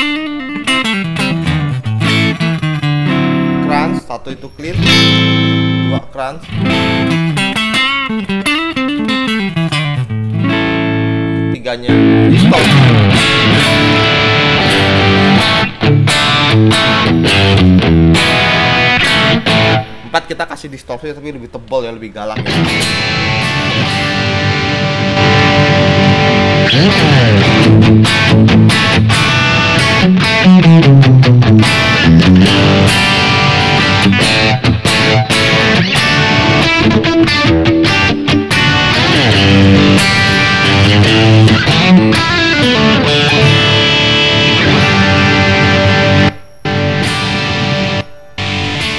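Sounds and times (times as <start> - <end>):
distorted electric guitar: 0.0 - 20.4, 22.4 - 48.9.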